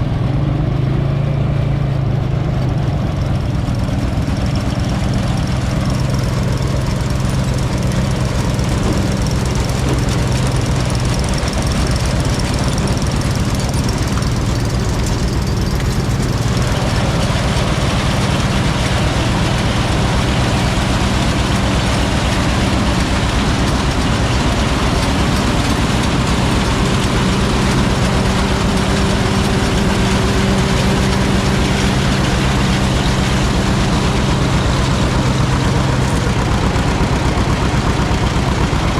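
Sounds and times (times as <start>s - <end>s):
loud noisy mechanical sound: 0.0s - 38.9s
tractor engine running: 0.0s - 38.9s.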